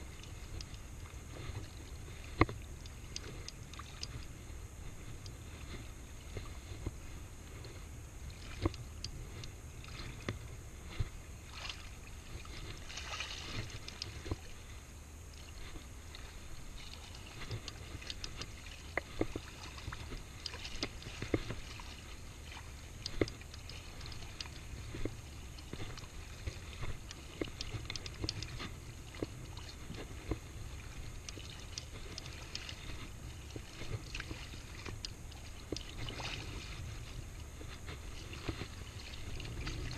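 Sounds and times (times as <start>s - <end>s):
sea water sloshing and lapping: 0.0s - 39.9s
steady low rumble: 0.0s - 39.9s.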